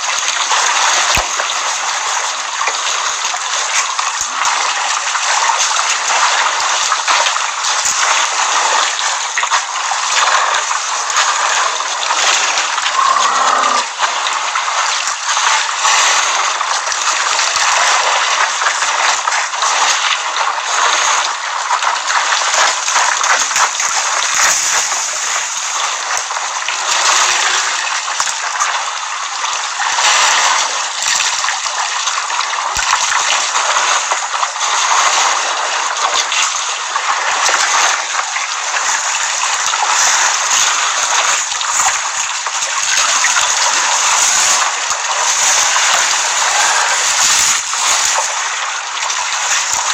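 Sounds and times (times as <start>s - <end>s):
water splashing and sloshing: 0.0s - 49.9s.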